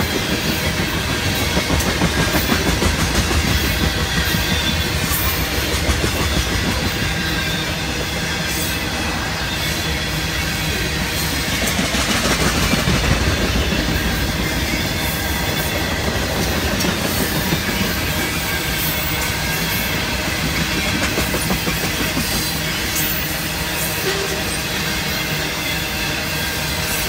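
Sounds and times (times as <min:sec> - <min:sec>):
wheels clacking over rail joints: 0:00.0 - 0:09.9, 0:10.5 - 0:23.3
train wheels rumbling on rails: 0:00.0 - 0:27.0.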